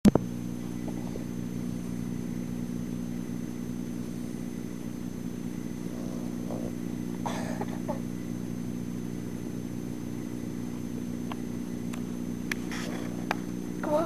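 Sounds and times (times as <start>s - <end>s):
low motor hum: 0.1s - 14.0s.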